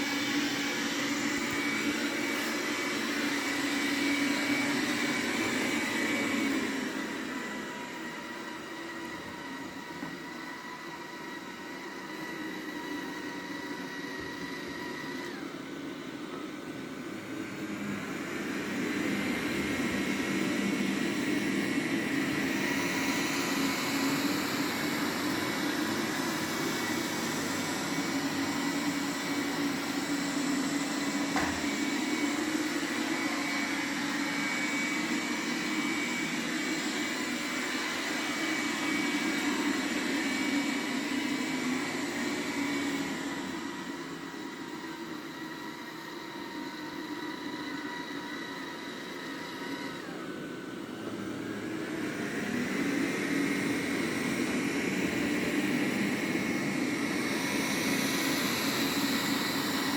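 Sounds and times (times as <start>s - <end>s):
robot vacuum fan whine: 0.0s - 59.9s.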